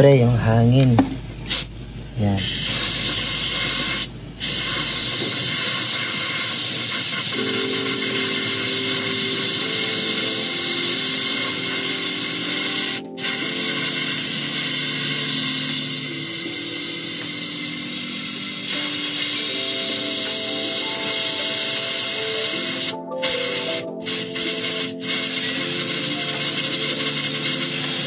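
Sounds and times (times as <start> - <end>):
compressed air hissing: 1.0 - 28.0.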